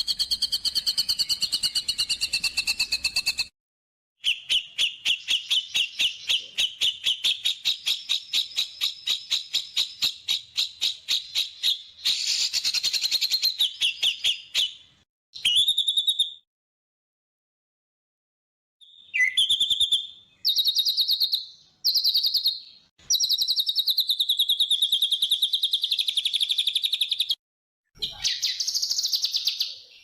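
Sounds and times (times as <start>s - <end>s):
songbird singing trills: 0.0s - 3.5s, 4.2s - 14.8s, 18.8s - 27.4s, 28.0s - 30.0s.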